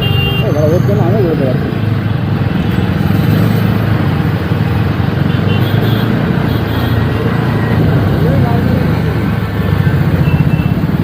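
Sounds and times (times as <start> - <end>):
motorcycle rumble: 0.0 - 11.0.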